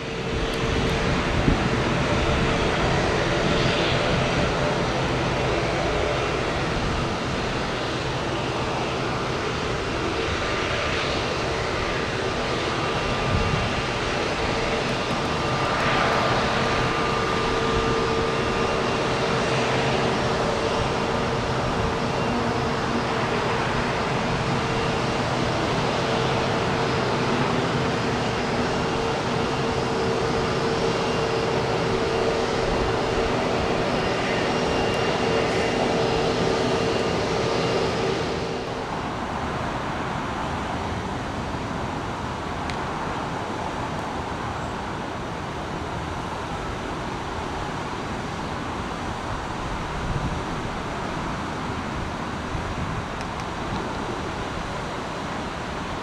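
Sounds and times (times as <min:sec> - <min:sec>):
distant aircraft noise: 0:00.0 - 0:56.0
jet engines whining: 0:00.0 - 0:56.0.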